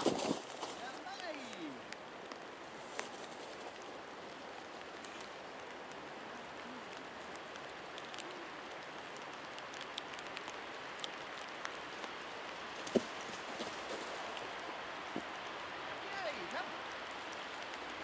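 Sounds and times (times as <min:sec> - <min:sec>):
steady rain hiss: 0:00.0 - 0:18.0
sharp raindrop ticks: 0:01.0 - 0:13.5, 0:14.2 - 0:18.0.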